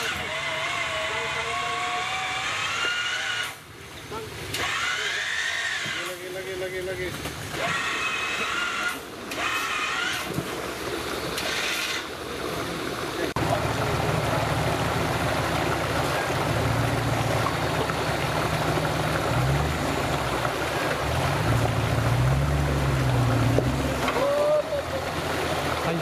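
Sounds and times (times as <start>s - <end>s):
off-road vehicle engine revving: 0.0s - 3.7s, 4.4s - 6.2s, 7.5s - 12.4s, 13.2s - 26.0s.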